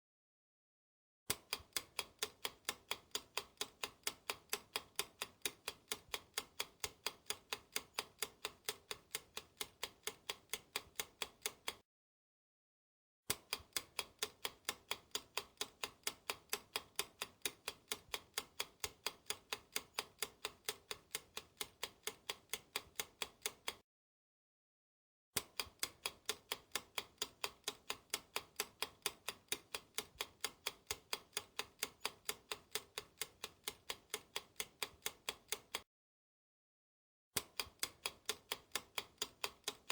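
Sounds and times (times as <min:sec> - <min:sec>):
clock ticking: 0:01.3 - 0:11.8, 0:13.3 - 0:23.8, 0:25.4 - 0:35.8, 0:37.4 - 0:39.9.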